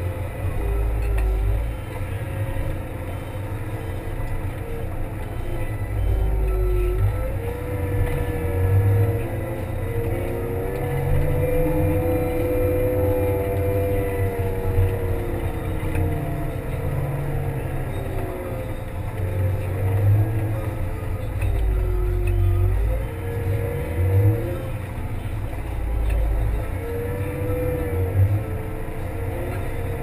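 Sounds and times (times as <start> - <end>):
diesel engine running under load: 0.0 - 30.0
engine whine: 0.0 - 30.0.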